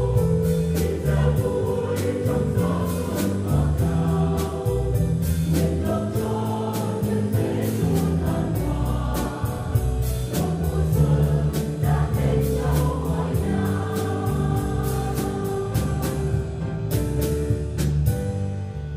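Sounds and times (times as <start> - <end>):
choir singing a hymn: 0.0 - 17.1
drum kit beat: 0.0 - 18.7.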